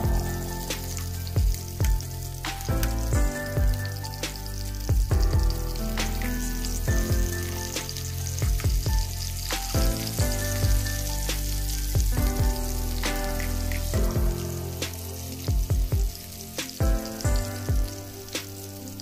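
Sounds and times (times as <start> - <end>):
music with steady beat and bass: 0.0 - 19.0
patties sizzling in hot oil: 0.0 - 19.0.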